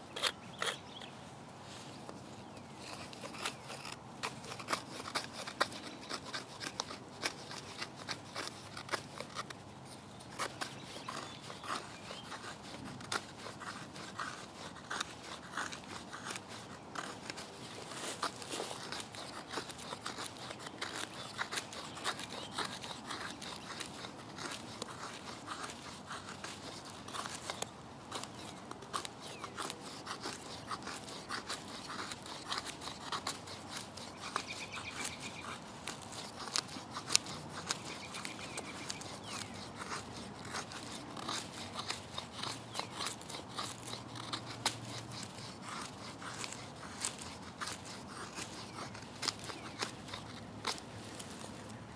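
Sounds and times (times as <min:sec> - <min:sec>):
blade scraping wood: 0:00.0 - 0:51.9.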